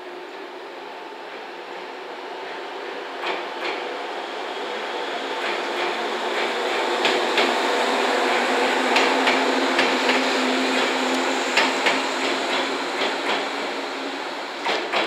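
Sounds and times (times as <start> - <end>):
electric train motor hum: 0.0 - 15.0.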